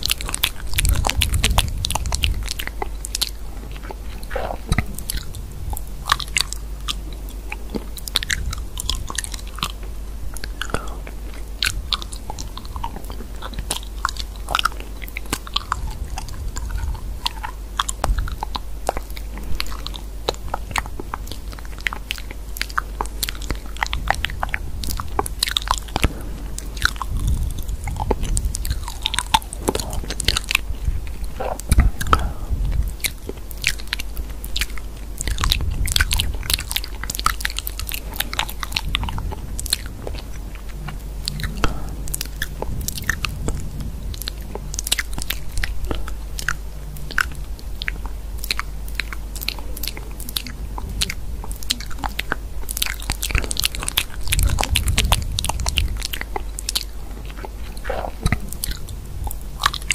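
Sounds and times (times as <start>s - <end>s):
crunching and crisp clicking: 0.0s - 59.9s
steady low hum: 0.0s - 59.9s.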